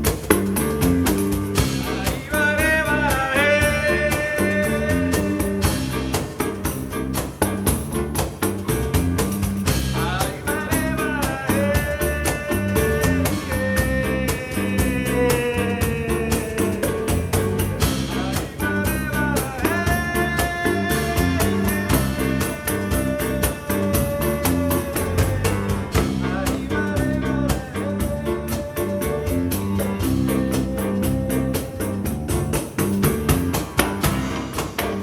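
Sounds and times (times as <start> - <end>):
hand percussion: 0.0 - 35.0
held melody line: 0.0 - 35.0
walking bass: 0.0 - 35.0.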